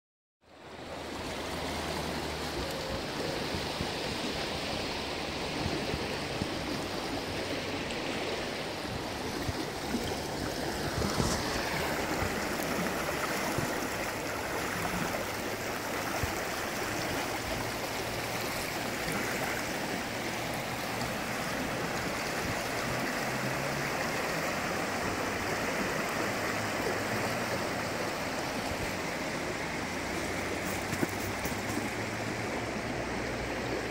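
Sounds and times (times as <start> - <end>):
river water rushing over rocks: 0.5 - 33.9.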